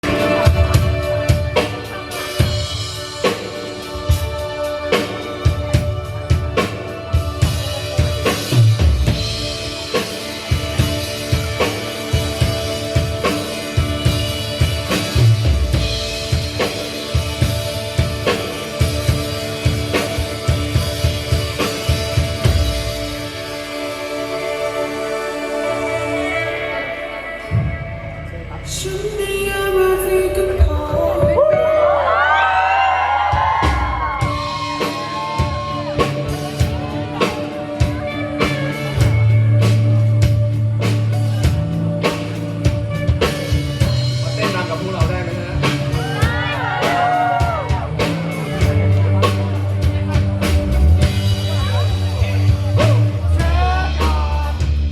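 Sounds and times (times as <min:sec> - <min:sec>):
drum kit steady beat: 0:00.0 - 0:54.9
live band music: 0:00.0 - 0:54.9.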